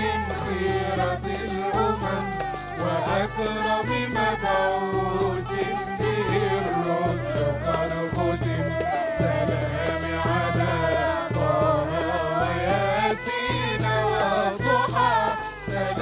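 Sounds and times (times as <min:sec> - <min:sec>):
tambourine and hand drum rhythm: 0:00.0 - 0:16.0
violin flute and keyboard melody: 0:00.0 - 0:16.0.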